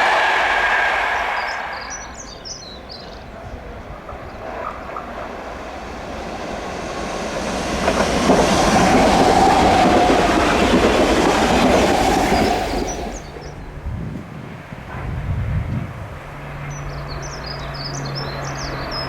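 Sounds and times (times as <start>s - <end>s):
train rumble and wheel noise: 0.0s - 19.0s
train whine: 0.0s - 19.0s.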